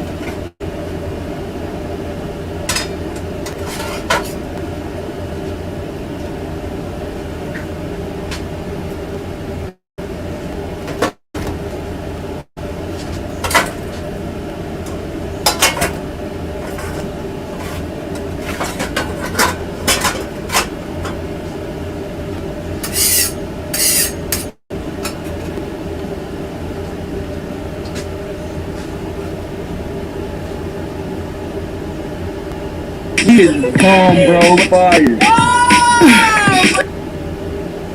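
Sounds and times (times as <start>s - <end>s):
steady machine hum: 0.0s - 37.9s.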